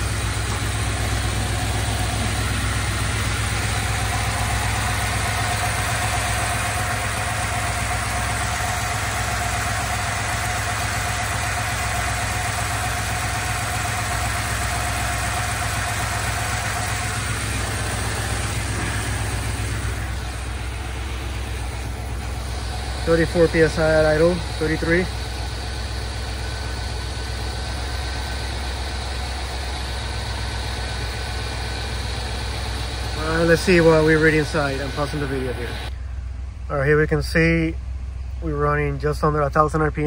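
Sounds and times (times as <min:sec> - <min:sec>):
steady whine: 0:00.0 - 0:37.8
engine idling: 0:00.0 - 0:40.0.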